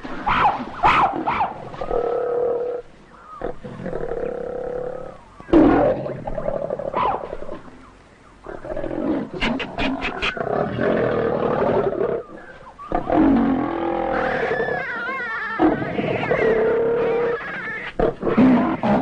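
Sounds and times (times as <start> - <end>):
leopard snarling and roaring: 0.1 - 7.6, 8.4 - 19.0.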